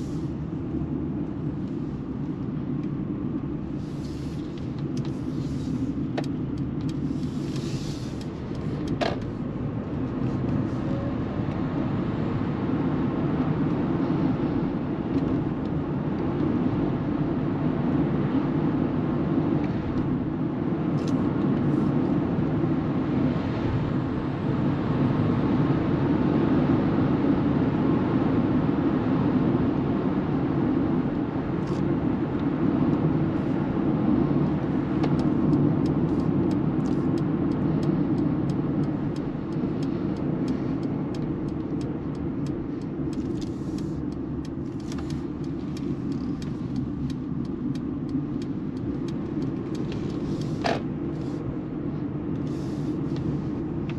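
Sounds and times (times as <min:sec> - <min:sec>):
tyre and road rumble: 0:00.0 - 0:25.5, 0:30.0 - 0:53.9.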